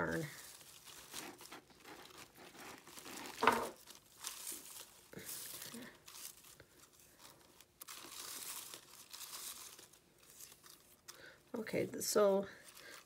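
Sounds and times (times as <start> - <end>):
paper filler rustling: 0.0 - 11.0.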